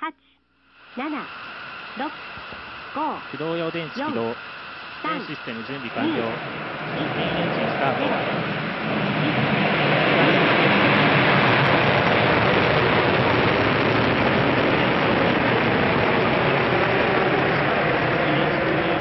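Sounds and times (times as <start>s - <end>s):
rocket engines roaring: 0.9s - 19.0s.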